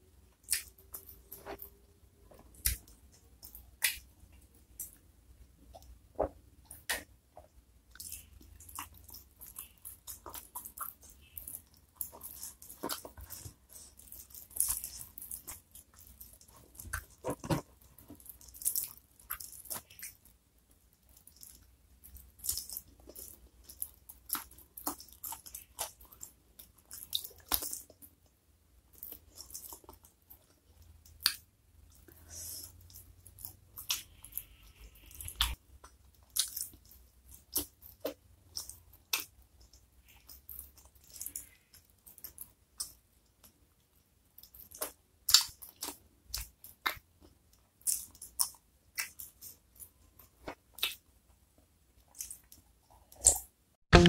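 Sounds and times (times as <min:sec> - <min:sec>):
person chewing and crunching: 0:00.4 - 0:05.0, 0:07.9 - 0:20.4, 0:21.0 - 0:28.2, 0:28.9 - 0:54.0.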